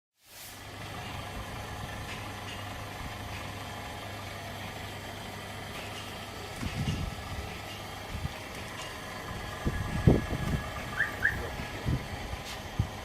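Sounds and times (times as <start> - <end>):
motor humming: 0.7 - 13.0.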